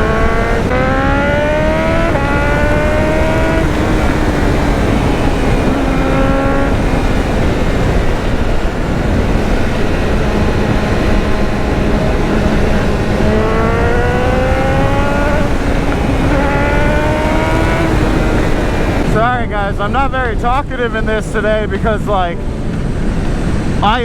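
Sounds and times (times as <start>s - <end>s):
motorcycle engine accelerating: 0.0s - 24.0s
wind noise: 0.0s - 24.0s.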